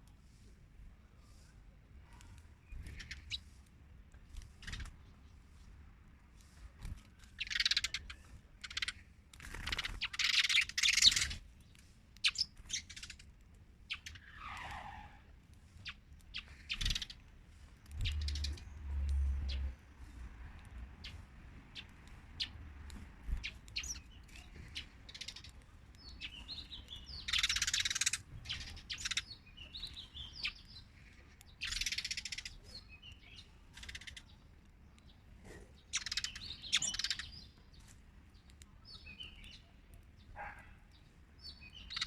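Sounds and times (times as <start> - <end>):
small birds chirping and squawking: 1.2 - 5.8, 6.4 - 13.3, 13.9 - 42.0.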